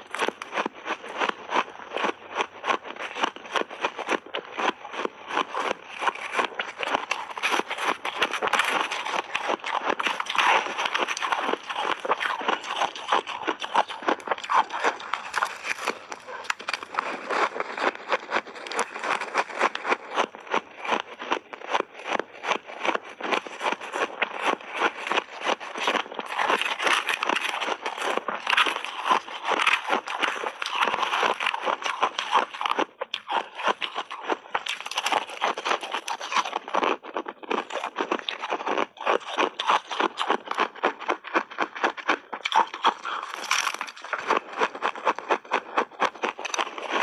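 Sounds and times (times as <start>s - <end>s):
chewing crunchy shaved ice: 0.0s - 47.0s.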